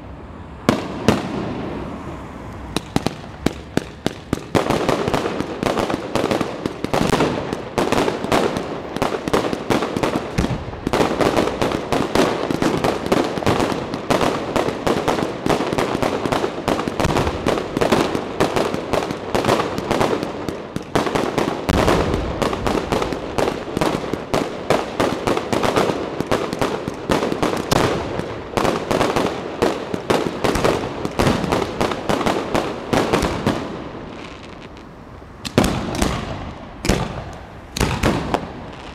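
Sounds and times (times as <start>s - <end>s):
fireworks crackling: 2.5s - 38.9s.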